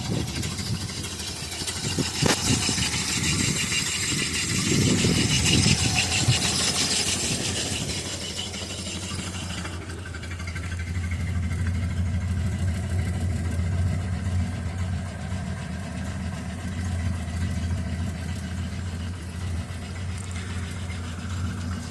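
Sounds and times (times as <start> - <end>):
engine idling: 0.0 - 21.9.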